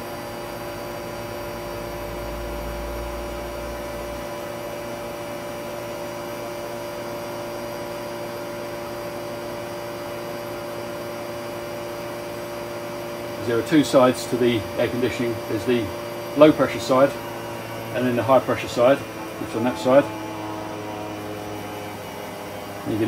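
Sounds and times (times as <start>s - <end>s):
air conditioning compressor whine: 0.0s - 23.0s.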